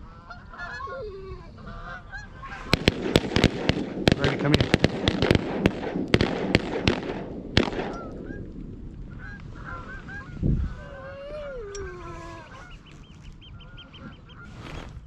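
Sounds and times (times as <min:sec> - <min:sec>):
geese honking: 0:00.0 - 0:05.5, 0:07.9 - 0:14.6.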